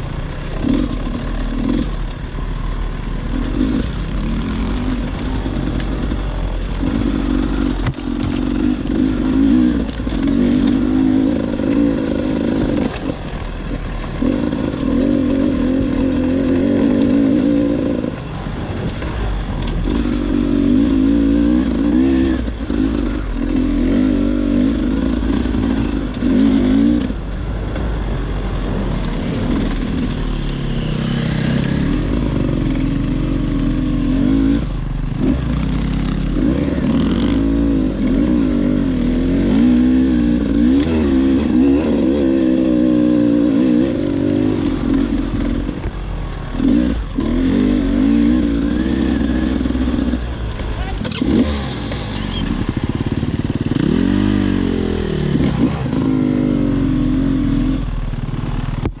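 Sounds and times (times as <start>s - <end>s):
dirt bike engine revving: 0.0s - 27.3s, 29.1s - 58.8s.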